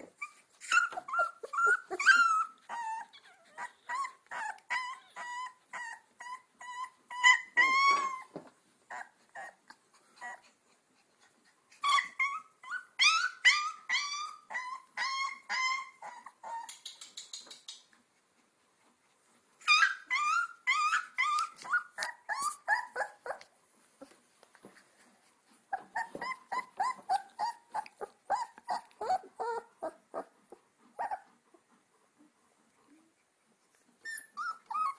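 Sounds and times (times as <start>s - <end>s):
puppies whining and yelping: 0.0s - 17.0s, 19.0s - 34.9s.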